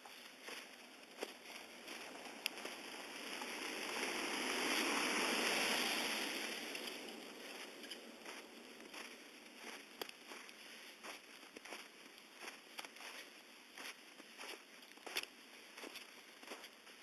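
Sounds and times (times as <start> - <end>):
car tyres on snow and slush: 0.0 - 17.0.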